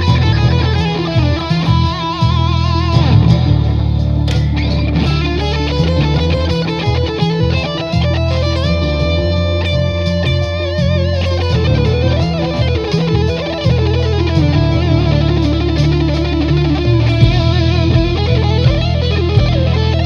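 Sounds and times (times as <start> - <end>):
backing track with bass: 0.0 - 20.0
electric guitar lead: 0.0 - 20.0.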